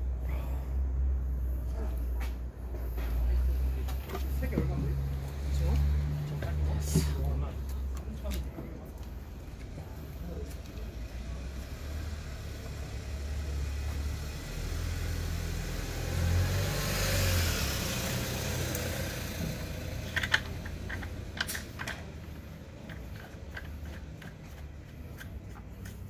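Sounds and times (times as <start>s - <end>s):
vehicle passing: 0.0s - 26.0s.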